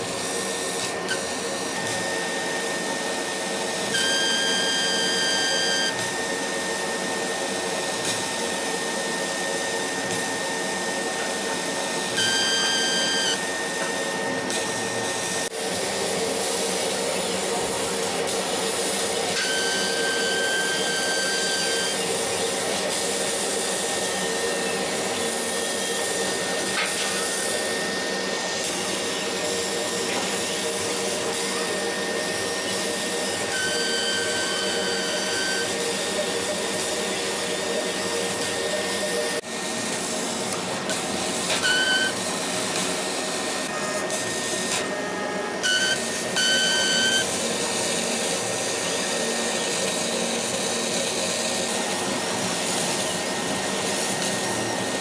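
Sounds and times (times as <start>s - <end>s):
laser cutter air hiss: 0.0s - 55.0s.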